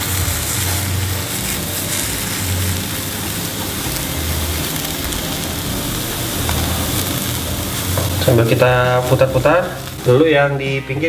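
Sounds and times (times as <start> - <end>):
batter sizzling in a pan: 0.0 - 11.0.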